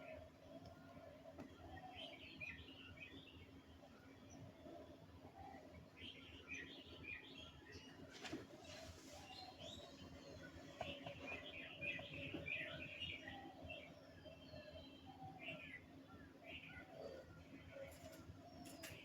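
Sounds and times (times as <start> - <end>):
birds chirping: 1.5 - 19.0.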